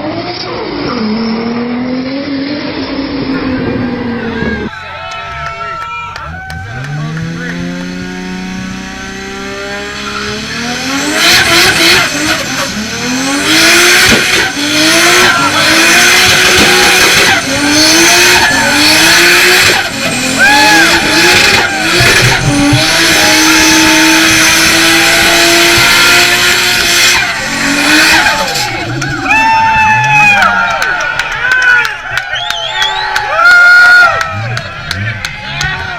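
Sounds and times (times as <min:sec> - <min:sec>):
car engine accelerating hard: 0:00.0 - 0:35.9.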